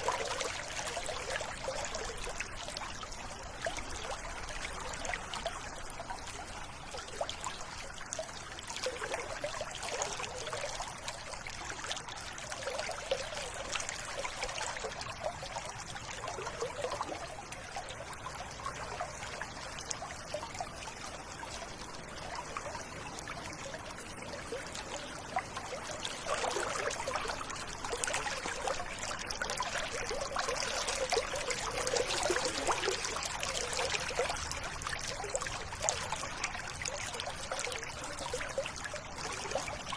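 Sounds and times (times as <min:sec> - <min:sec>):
stream water babbling over stones: 0:00.0 - 0:39.9.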